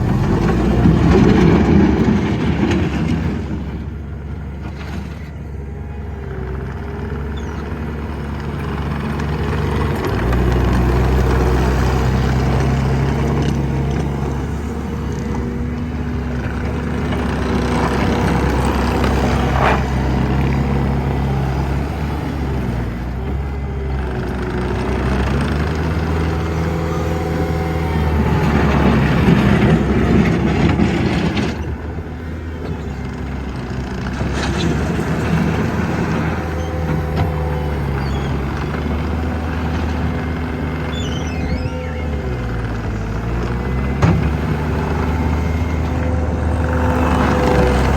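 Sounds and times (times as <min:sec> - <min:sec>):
hydraulic whine: 0:00.0 - 0:47.9
skid steer diesel engine running: 0:00.0 - 0:47.9.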